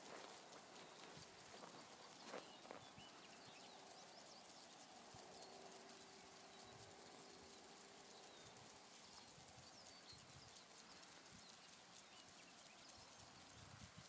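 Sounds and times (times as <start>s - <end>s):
faint outdoor ambience: 0.0s - 14.0s
rapid faint ticking: 0.0s - 14.0s.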